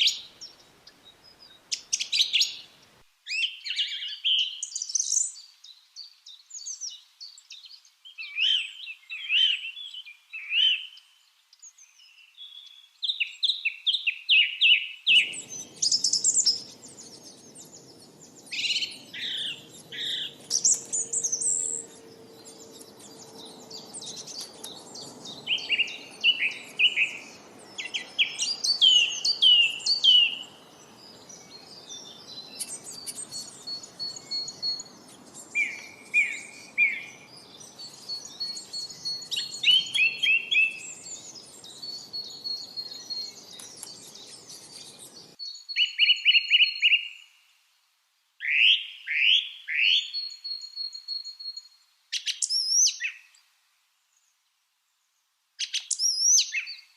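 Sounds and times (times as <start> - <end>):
lovebirds chirping: 0.0 - 47.3, 55.6 - 56.9.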